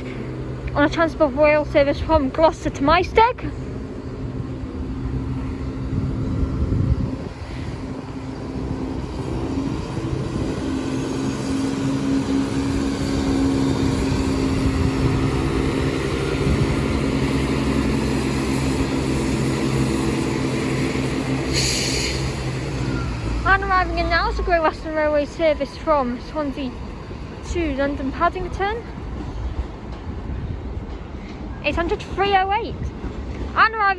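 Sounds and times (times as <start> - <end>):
diesel train engine drone: 0.0 - 33.9.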